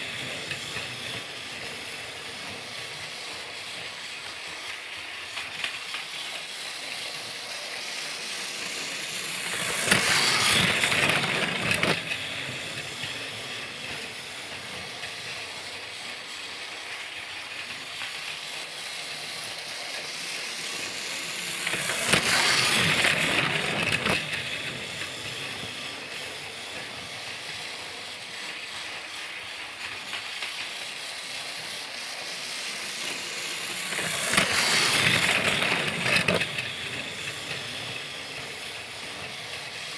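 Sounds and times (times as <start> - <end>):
toy train whirr and rattle: 0.0 - 39.9.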